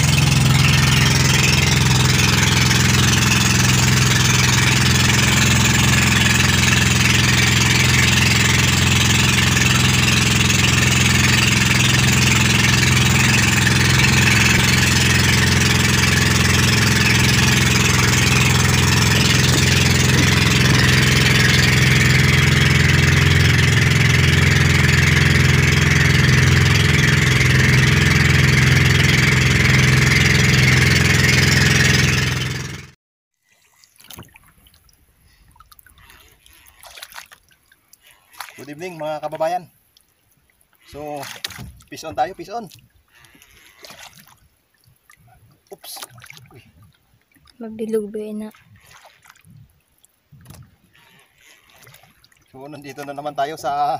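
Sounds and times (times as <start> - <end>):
boat engine cruising: 0.0 - 33.0, 33.9 - 53.9.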